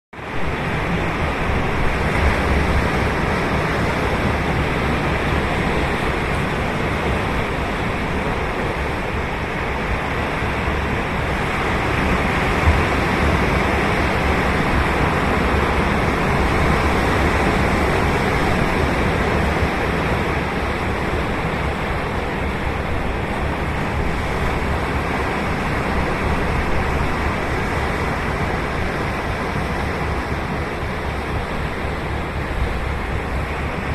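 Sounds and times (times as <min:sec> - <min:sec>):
ocean waves breaking on beach: 0:00.2 - 0:33.9.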